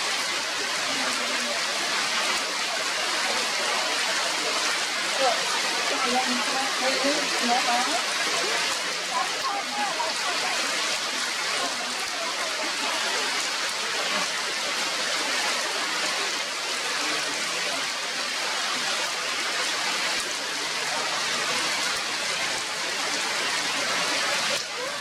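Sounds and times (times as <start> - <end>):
rain falling on leaves: 0.0 - 25.0.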